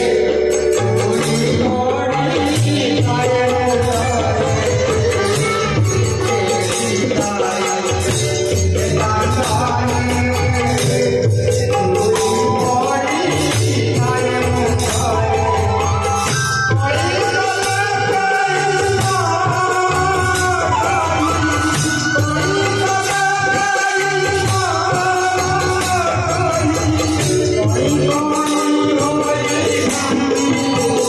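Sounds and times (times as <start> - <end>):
hand drum: 0.0 - 31.0
man singing devotional melody: 0.0 - 31.0.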